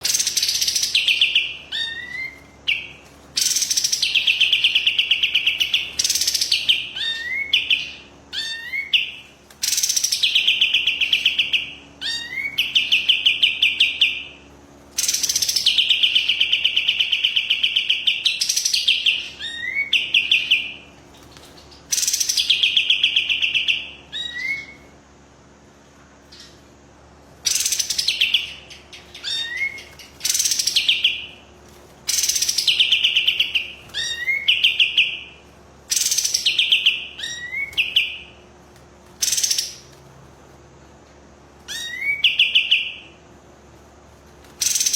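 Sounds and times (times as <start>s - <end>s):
bird chips: 0.0s - 14.2s, 14.9s - 24.8s, 27.4s - 40.2s, 44.3s - 44.9s
songbird trilling: 0.0s - 14.4s, 15.0s - 20.8s, 21.7s - 24.9s, 27.4s - 31.4s, 32.1s - 38.4s, 39.2s - 39.9s, 41.7s - 43.1s, 44.6s - 44.9s.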